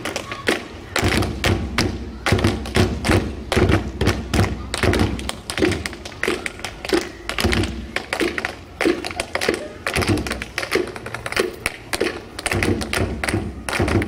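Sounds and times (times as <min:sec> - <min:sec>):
tap shoes clicking: 0:00.0 - 0:14.0.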